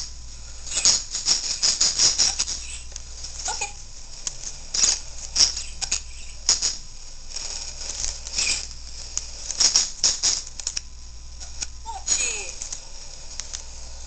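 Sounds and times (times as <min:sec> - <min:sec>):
beak and claws scratching plastic: 0:00.0 - 0:11.8.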